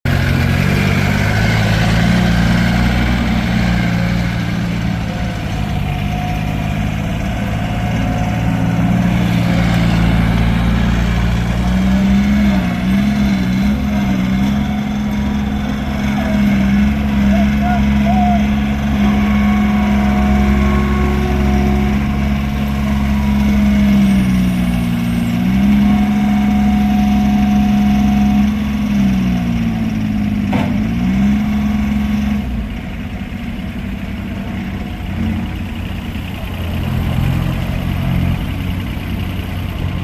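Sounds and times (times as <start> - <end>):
loader engine running: 0.0 - 40.0.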